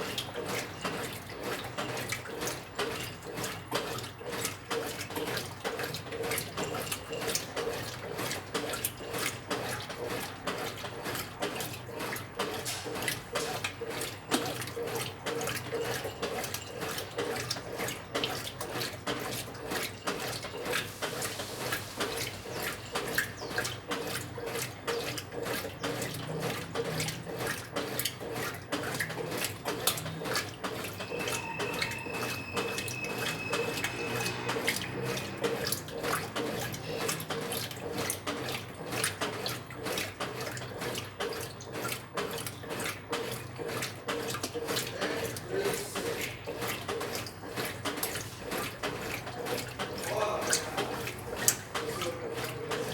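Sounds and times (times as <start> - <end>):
washing machine hum: 0.0 - 52.9
water splashing in washing machine: 0.0 - 52.9.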